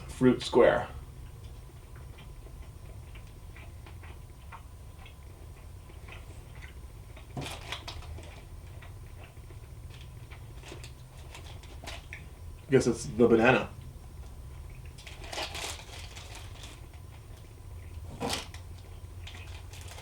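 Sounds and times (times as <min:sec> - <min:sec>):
person chewing sticky food: 0:01.0 - 0:12.7, 0:13.6 - 0:20.0.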